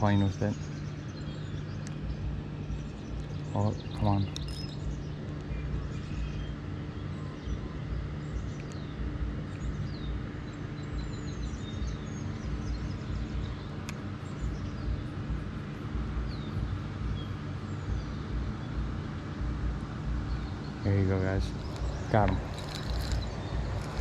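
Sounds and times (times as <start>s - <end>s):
birds chirping: 0.0s - 24.0s
low hum and rumble: 0.0s - 24.0s.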